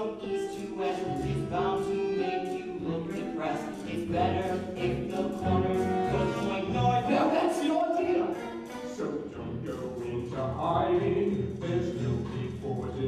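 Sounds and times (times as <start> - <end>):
show tune accompaniment: 0.0 - 12.8.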